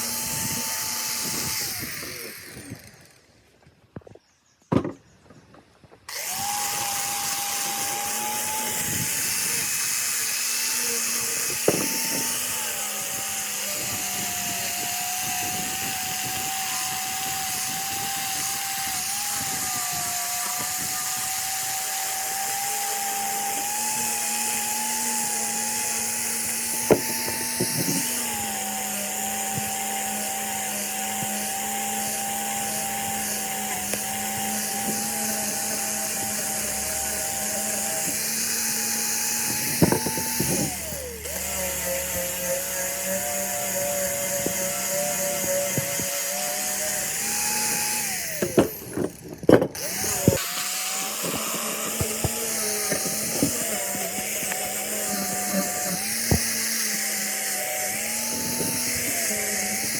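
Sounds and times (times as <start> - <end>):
power tool motor whining: 0.0 - 3.6, 6.1 - 59.9.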